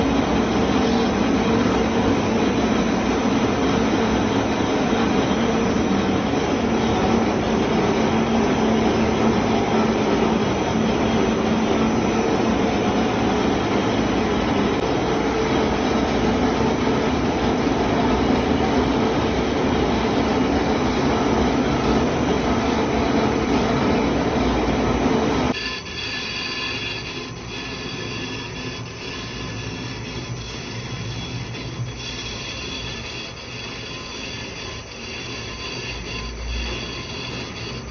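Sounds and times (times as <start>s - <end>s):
metalworking machine grinding: 0.0s - 37.9s.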